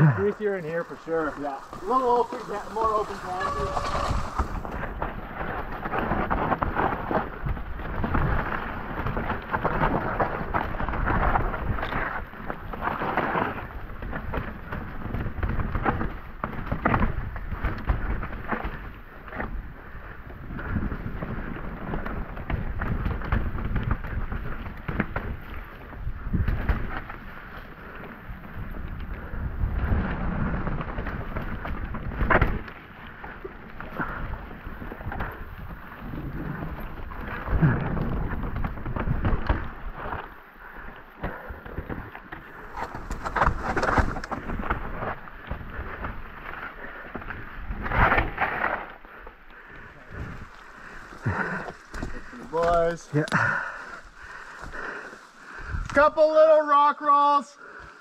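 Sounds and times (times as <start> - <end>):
tyres rumbling on dirt: 0.0 - 40.4, 41.2 - 56.1
bike rattling over bumps: 0.0 - 56.0.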